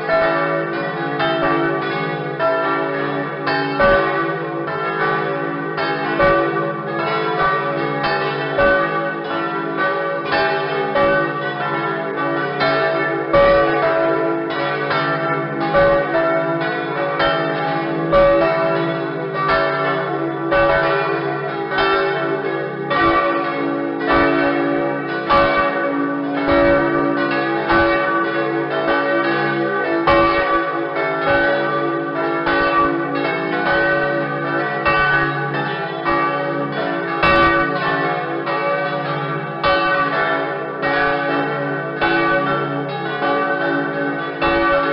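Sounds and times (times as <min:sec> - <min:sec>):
church bells pealing: 0:00.0 - 0:44.9.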